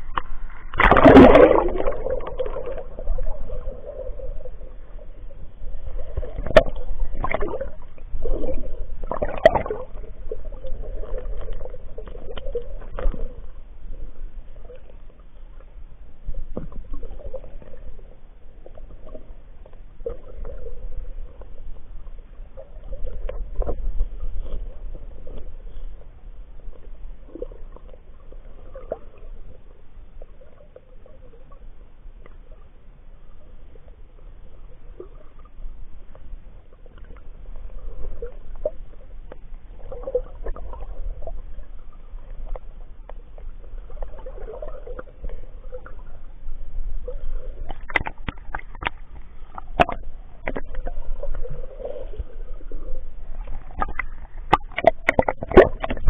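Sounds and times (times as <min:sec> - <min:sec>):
sea water sloshing and splashing: 0:00.0 - 0:32.7, 0:33.3 - 0:56.0.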